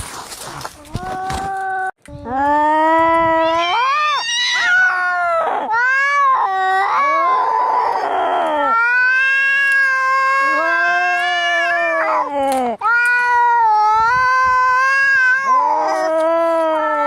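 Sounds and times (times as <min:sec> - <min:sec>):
cats yowling: 0:03.1 - 0:17.0.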